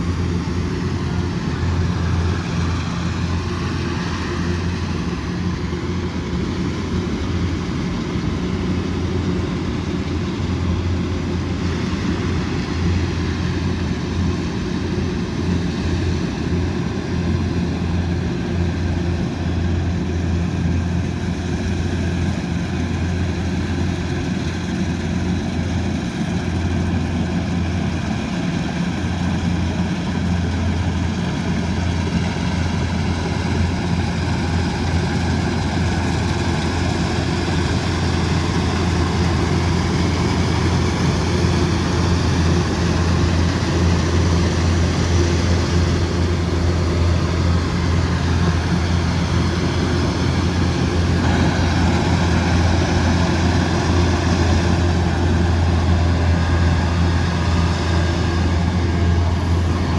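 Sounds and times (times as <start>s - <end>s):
combine harvester engine droning: 0.0s - 59.9s
machinery noise: 0.0s - 59.9s.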